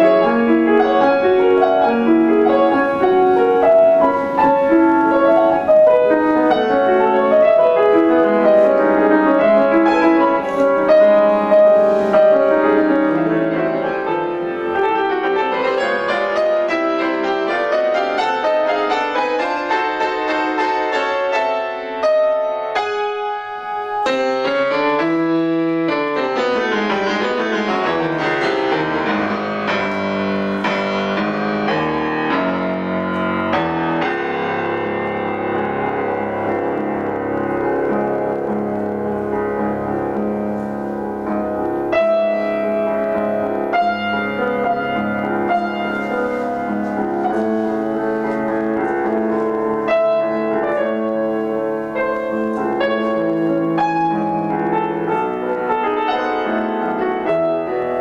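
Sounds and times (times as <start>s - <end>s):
solo grand piano: 0.0s - 58.0s.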